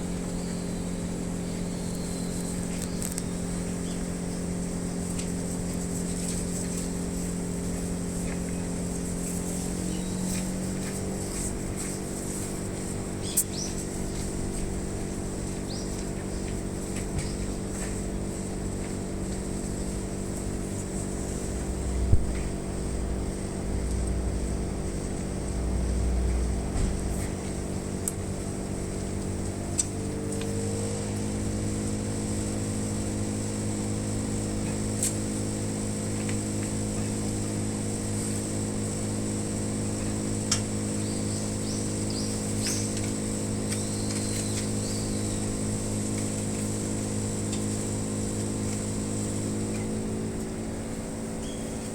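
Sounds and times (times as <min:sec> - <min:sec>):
air conditioner unit humming: 0:00.0 - 0:51.9.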